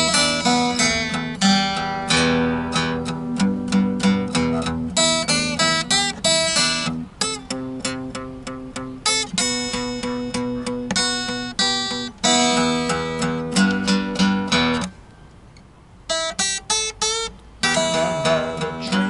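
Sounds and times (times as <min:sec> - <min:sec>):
acoustic guitar blues: 0:00.0 - 0:19.0.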